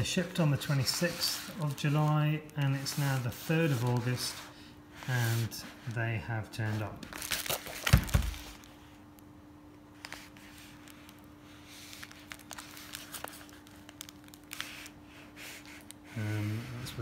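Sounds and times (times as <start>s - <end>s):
plastic parcel rustling: 0.0s - 9.1s, 9.9s - 17.0s
steady hum: 0.0s - 17.0s.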